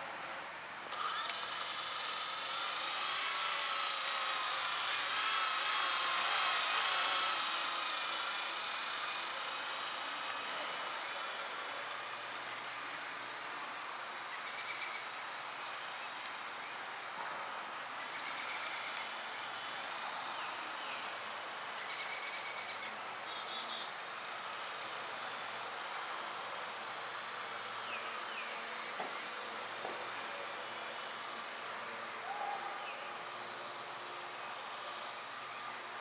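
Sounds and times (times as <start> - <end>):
model helicopter buzzing whine: 0.0 - 36.0.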